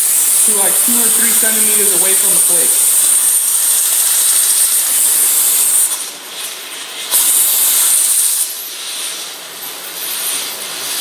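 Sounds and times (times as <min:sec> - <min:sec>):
plasma torch hissing: 0:00.0 - 0:11.0.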